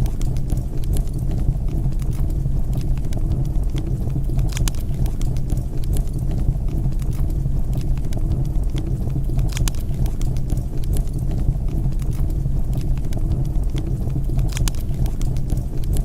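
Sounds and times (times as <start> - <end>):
low rumble of burning: 0.0 - 16.0
wood fire crackling and popping: 0.0 - 16.0.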